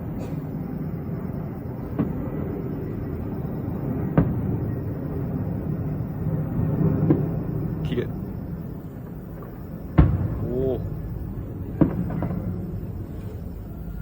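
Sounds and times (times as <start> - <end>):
firework bangs: 0.0 - 14.0.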